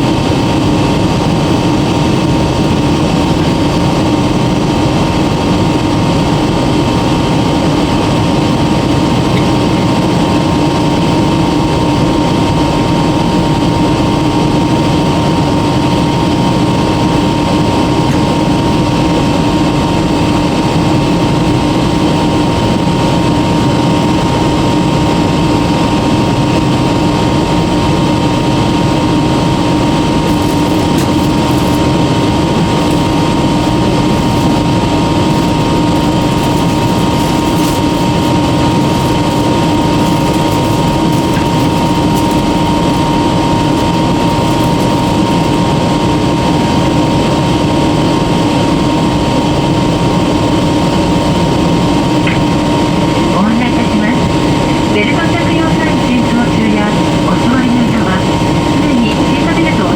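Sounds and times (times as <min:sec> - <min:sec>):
high whine: 0:00.0 - 0:59.9
jet engine cabin roar: 0:00.0 - 0:59.9.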